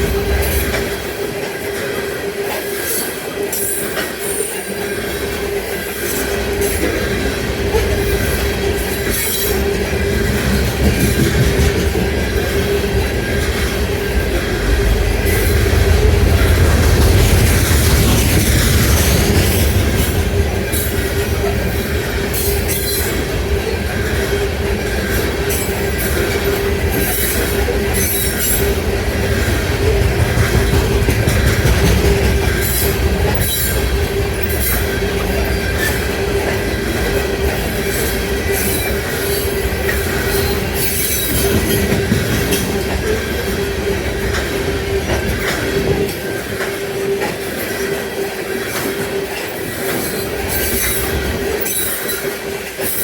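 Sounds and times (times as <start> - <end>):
freight train wheels clattering: 0.0 - 53.0
train wheels squealing: 0.0 - 53.0.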